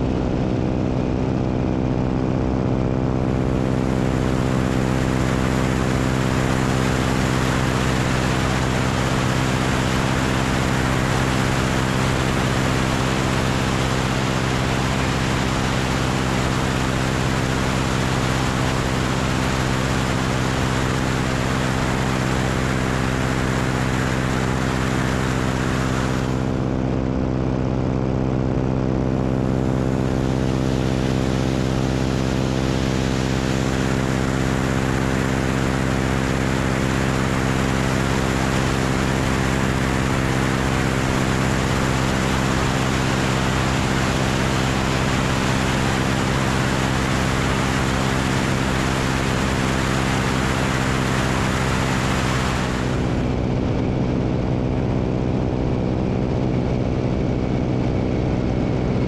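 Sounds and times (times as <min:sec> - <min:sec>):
propeller engine running: 0:00.0 - 0:59.0.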